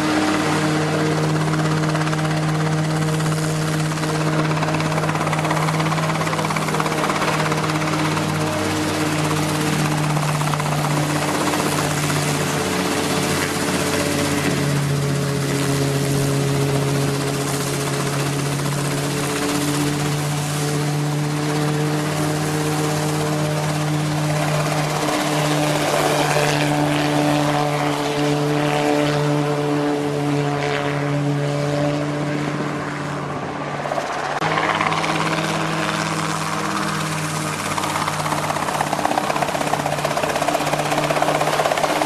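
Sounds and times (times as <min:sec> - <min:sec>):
helicopter engine and rotor drone: 0:00.0 - 0:42.0.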